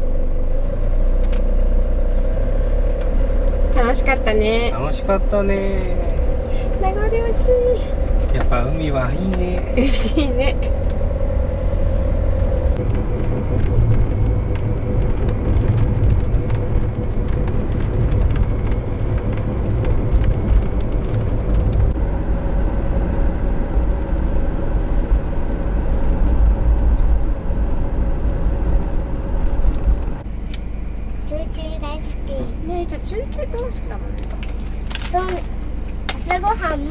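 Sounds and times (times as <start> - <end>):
car road and engine rumble: 0.0 - 36.9
steady hum: 3.0 - 36.9.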